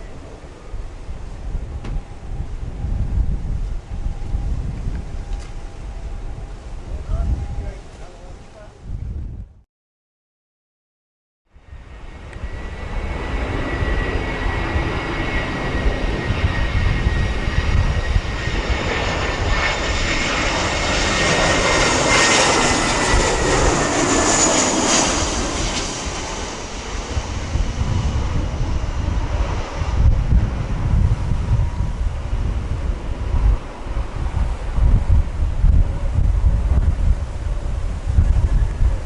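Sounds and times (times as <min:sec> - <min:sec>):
jet airliner flying past: 0:00.0 - 0:09.2, 0:11.5 - 0:39.0
wind buffeting microphone: 0:00.0 - 0:09.6, 0:11.6 - 0:39.0.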